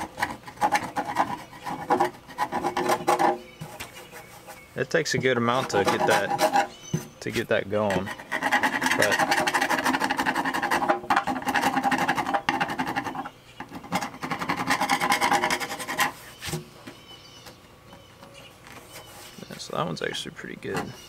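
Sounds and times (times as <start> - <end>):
screwdriver scraping metal hull: 0.0 - 16.4, 20.0 - 21.0.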